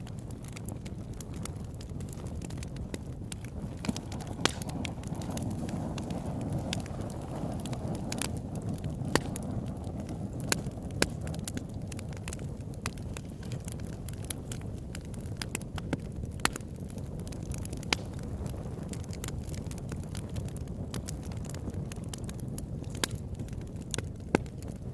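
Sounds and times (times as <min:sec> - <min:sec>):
campfire flames rushing: 0:00.0 - 0:24.9
fire crackles and pops: 0:00.0 - 0:24.9.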